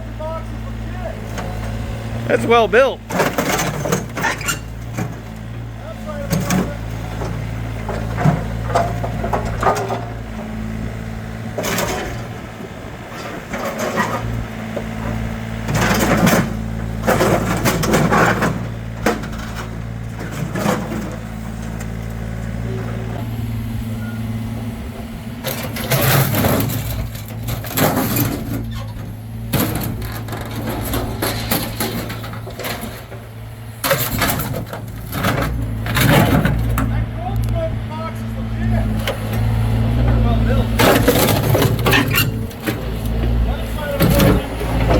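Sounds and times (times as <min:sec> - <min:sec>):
excavator engine running: 0:00.0 - 0:44.9
metal crushing bangs and crunches: 0:01.3 - 0:23.1, 0:25.4 - 0:44.9.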